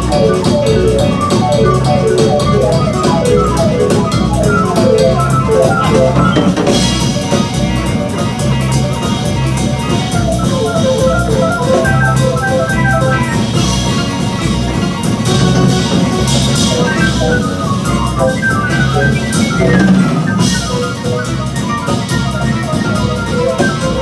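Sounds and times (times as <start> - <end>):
grand piano: 0.0 - 24.0
upright double bass: 0.0 - 24.0.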